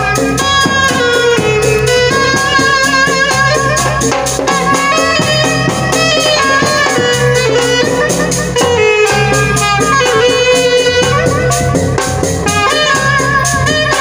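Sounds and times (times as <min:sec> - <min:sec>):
drums keeping steady beat: 0:00.0 - 0:14.0
wavering melody line: 0:00.0 - 0:14.0.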